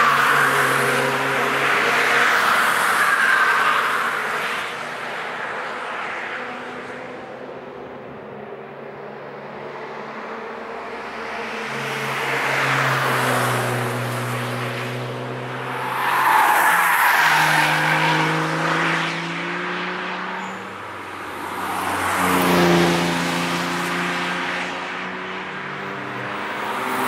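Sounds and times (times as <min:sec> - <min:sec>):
race cars passing at speed: 0:00.0 - 0:27.0.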